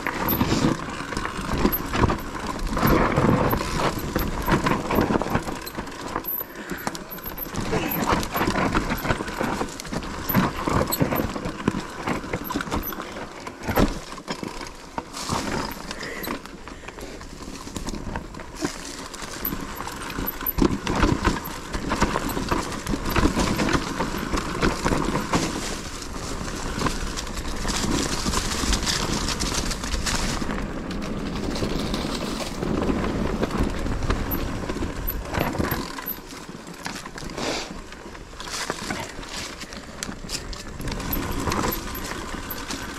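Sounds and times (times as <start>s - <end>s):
bike knocks and clatter: 0.0s - 16.9s, 17.5s - 37.3s
tyre noise: 0.0s - 42.9s.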